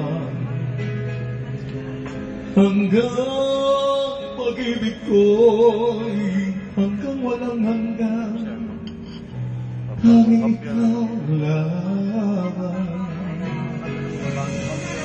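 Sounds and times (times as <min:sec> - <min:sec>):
man singing into microphone: 0:00.0 - 0:00.9, 0:02.5 - 0:08.8, 0:09.9 - 0:15.0
band playing: 0:00.0 - 0:15.0.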